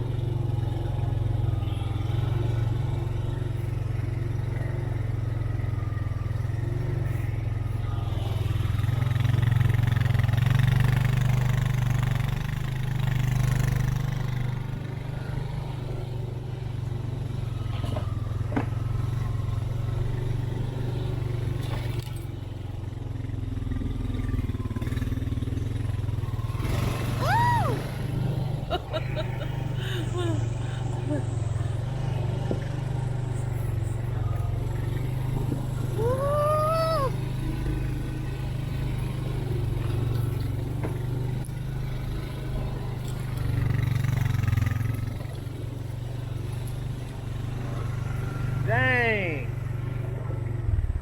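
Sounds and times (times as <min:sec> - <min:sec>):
off-road vehicle engine running: 0:00.0 - 0:51.0.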